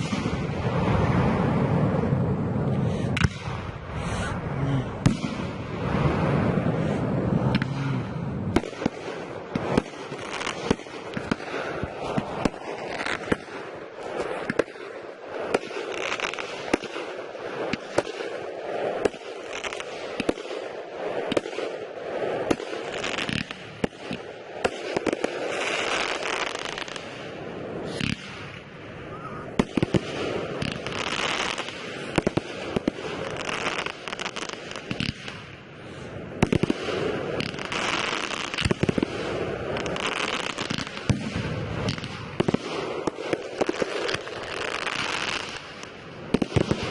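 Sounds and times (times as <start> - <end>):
fireworks crackling: 0.0 - 46.9.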